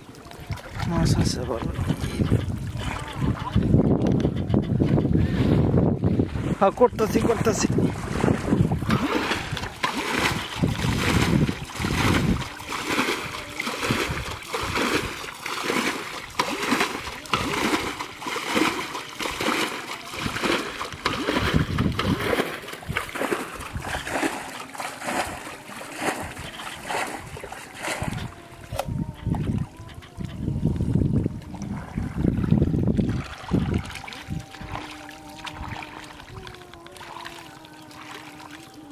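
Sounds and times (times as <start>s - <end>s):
muddy water splashing: 0.0s - 38.9s.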